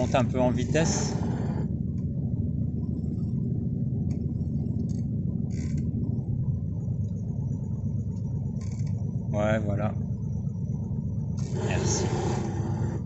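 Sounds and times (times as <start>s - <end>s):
boat engine rumble: 0.0s - 13.0s.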